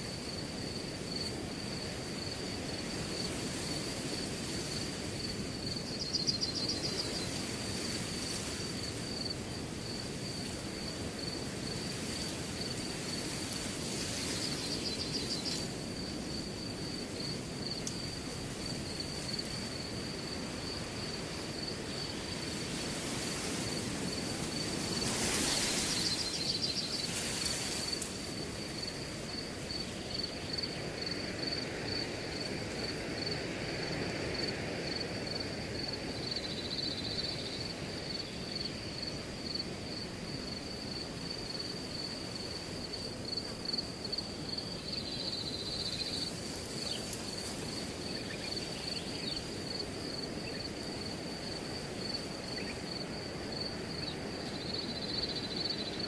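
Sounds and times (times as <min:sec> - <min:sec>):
cricket chirping: 0:00.0 - 0:56.0
wind rushing through grass: 0:00.0 - 0:56.0.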